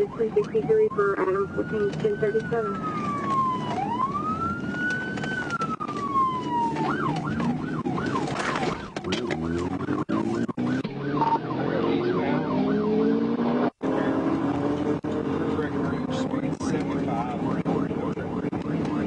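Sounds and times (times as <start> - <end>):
car engine and road noise: 0.0 - 19.0
police siren wailing and yelping: 0.0 - 19.0.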